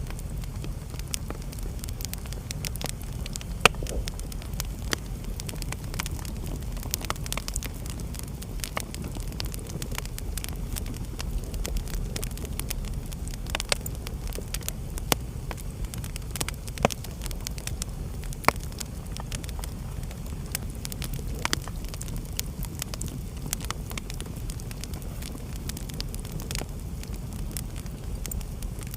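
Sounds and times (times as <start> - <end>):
loud pops of burning wood: 0.0 - 28.9
low fire rumble: 0.0 - 28.9
wood fire crackling: 0.0 - 28.9.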